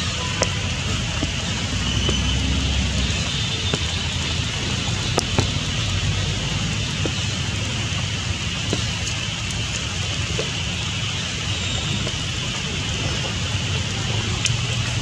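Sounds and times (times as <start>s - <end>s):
rain falling on foliage: 0.0s - 15.0s
sharp drip ticks: 0.0s - 15.0s.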